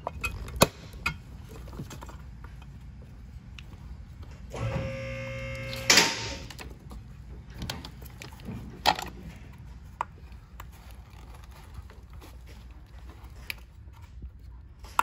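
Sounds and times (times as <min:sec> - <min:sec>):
steady hum: 0:00.0 - 0:14.3.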